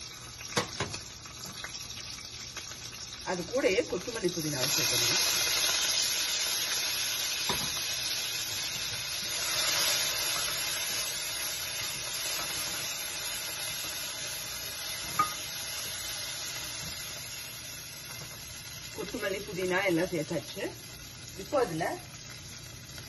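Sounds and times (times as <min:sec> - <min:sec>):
leaves sizzling in hot oil: 0:00.0 - 0:23.0.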